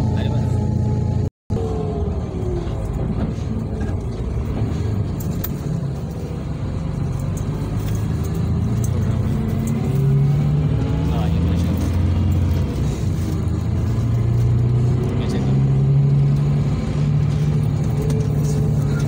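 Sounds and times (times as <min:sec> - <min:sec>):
bus engine hum: 0:00.0 - 0:19.0.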